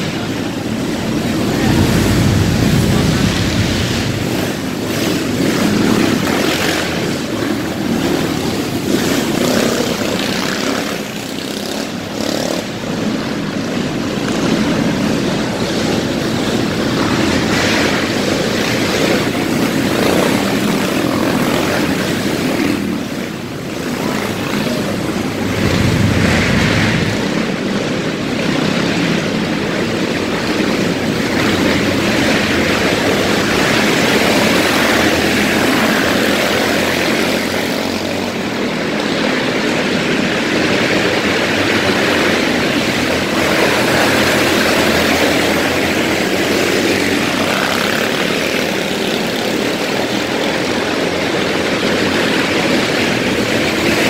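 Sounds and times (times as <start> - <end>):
kart engines droning: 0.0 - 54.0.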